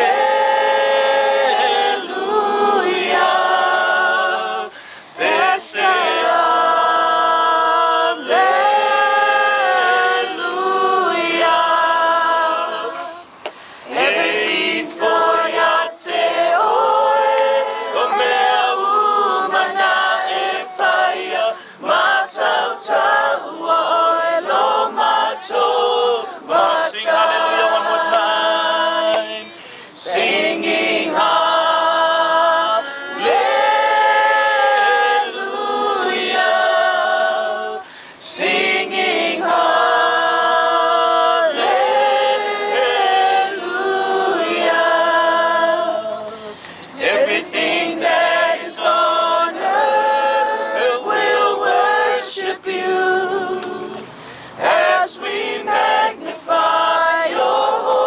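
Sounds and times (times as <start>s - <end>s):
group singing unaccompanied: 0.0s - 58.0s.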